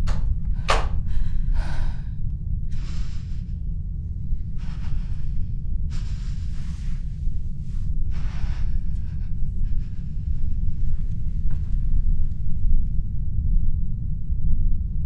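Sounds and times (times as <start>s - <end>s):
woman breathing heavily: 0.0s - 12.9s
steady low rumble: 0.0s - 15.0s.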